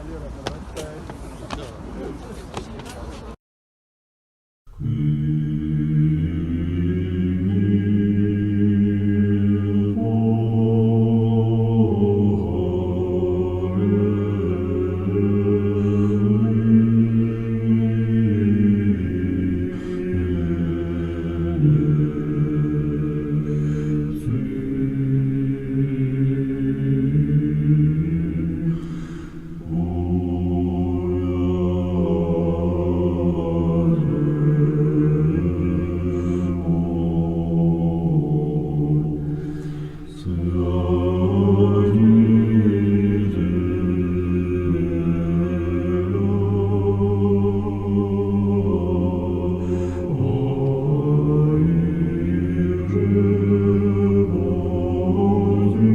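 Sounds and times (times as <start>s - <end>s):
men's voices chanting a cappella: 4.7s - 55.9s.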